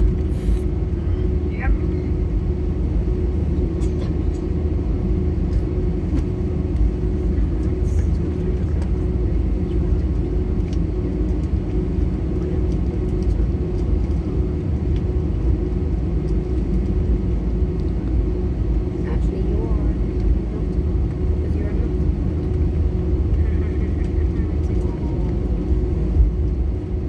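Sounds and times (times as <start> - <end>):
cabin hum: 0.0 - 27.0
jet engines rumbling: 0.0 - 27.0.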